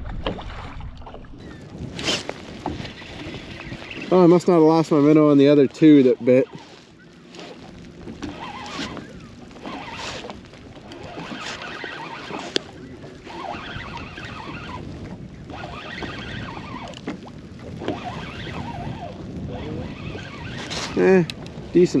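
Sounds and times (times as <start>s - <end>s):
water against boat: 0.0s - 22.0s
wind buffeting microphone: 0.0s - 22.0s.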